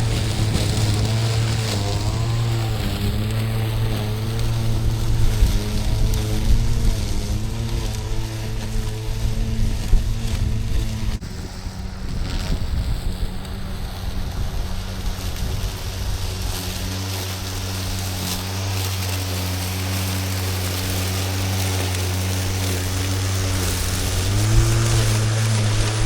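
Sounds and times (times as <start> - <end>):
electric lawn mower running: 0.0 - 26.0
hiss of cut grass: 0.0 - 26.0
wind: 0.0 - 26.0.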